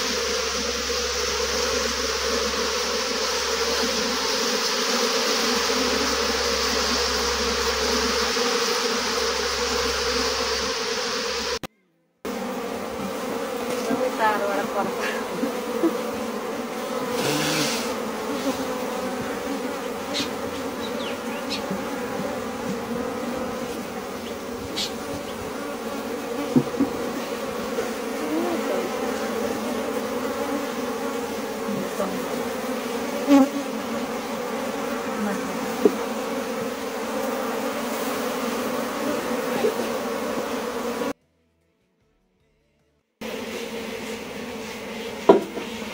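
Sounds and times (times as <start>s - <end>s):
honeybees buzzing: 0.0s - 11.7s, 12.3s - 41.2s, 43.2s - 45.9s.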